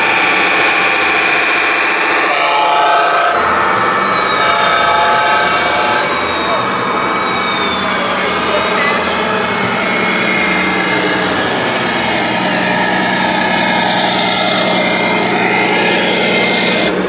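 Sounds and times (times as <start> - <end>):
simulated truck engine sound: 0.0 - 17.0
thin whining tones: 0.0 - 17.0.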